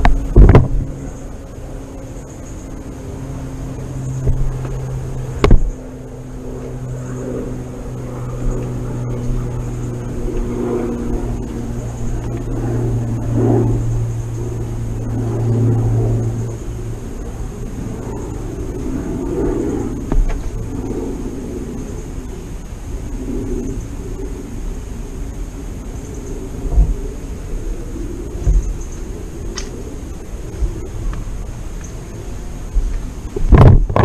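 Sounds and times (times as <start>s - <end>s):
engine hum: 0.0s - 34.0s.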